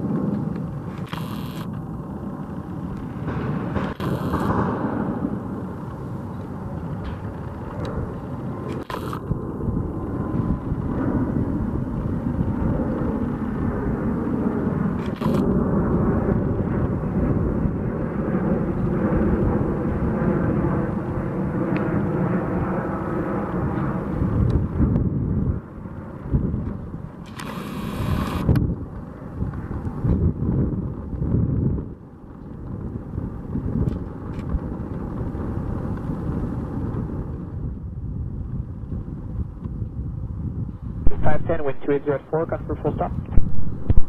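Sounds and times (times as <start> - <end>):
jet airliner flying by low: 0.0 - 44.0.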